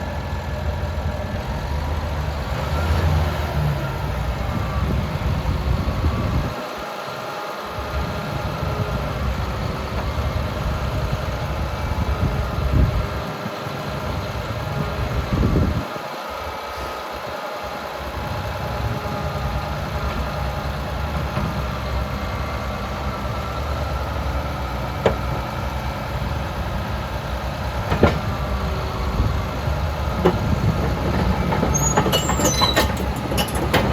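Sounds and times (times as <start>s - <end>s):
bulldozer diesel engine rumbling: 0.0s - 33.9s.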